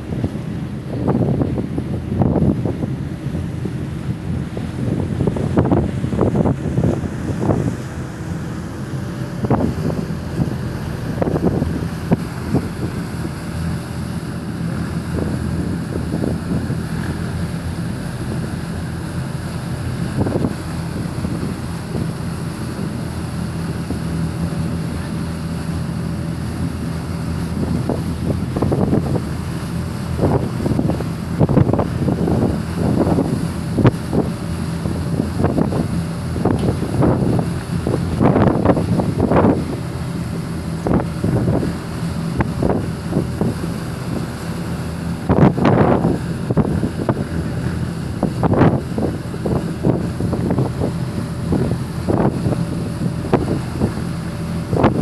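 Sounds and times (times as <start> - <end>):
low engine drone: 0.0 - 55.0
rush of propeller wake: 0.0 - 55.0
wind buffeting microphone: 0.0 - 55.0.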